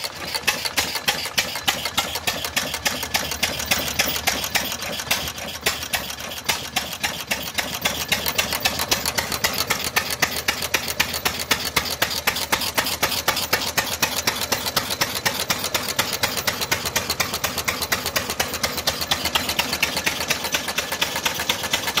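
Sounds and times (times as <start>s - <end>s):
hit-and-miss engine running: 0.0s - 22.0s.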